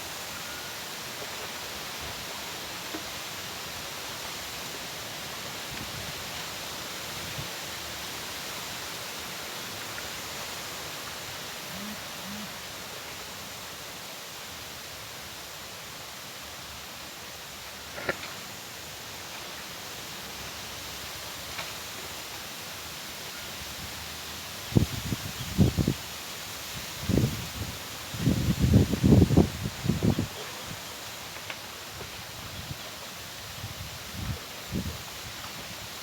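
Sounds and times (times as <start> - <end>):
wind: 0.0 - 36.0.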